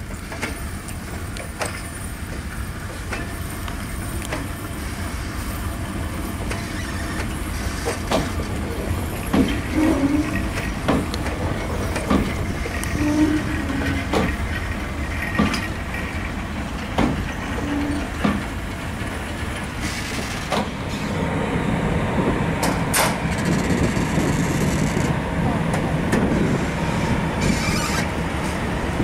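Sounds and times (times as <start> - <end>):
locomotive low rumble: 0.0 - 29.0.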